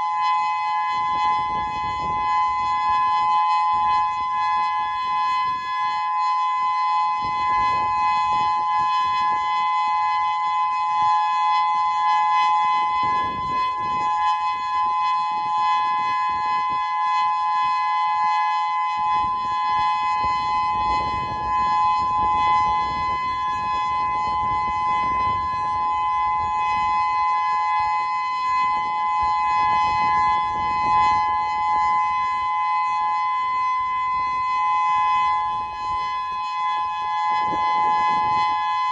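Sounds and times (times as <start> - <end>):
steady electronic siren tone: 0.0 - 38.9.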